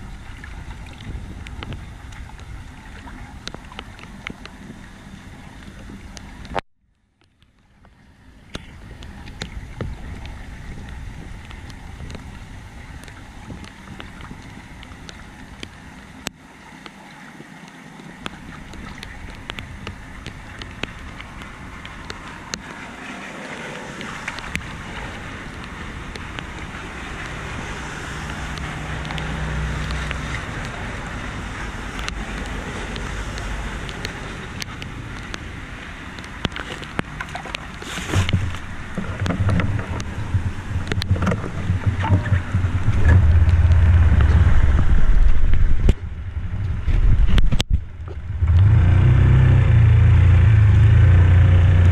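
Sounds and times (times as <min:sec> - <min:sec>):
wind buffeting microphone: 0:00.0 - 0:06.5, 0:08.4 - 0:15.8, 0:18.1 - 0:48.6
floodwater rushing into storm drain: 0:08.2 - 0:51.9.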